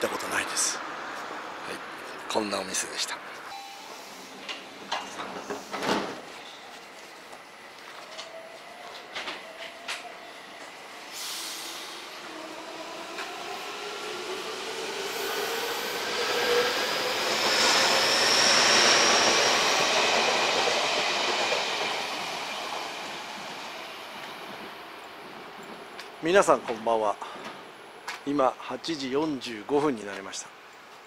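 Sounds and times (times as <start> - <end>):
train wheel and rail noise: 0.2 - 29.2.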